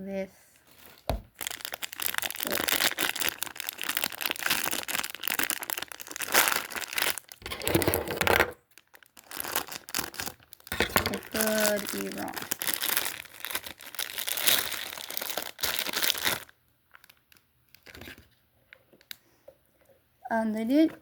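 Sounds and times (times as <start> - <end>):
packaging crinkling and rustling: 0.6 - 19.2.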